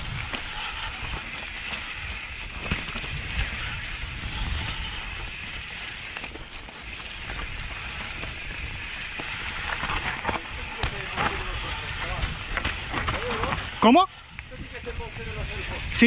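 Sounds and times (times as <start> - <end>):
bike knocking over bumps: 0.0 - 14.4
bike tyres rushing through leaves: 0.0 - 16.0.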